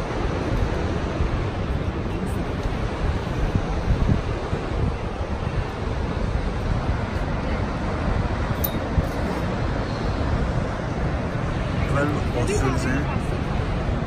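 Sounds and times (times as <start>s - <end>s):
ocean surf: 0.0s - 14.0s
wind on microphone: 0.0s - 14.0s.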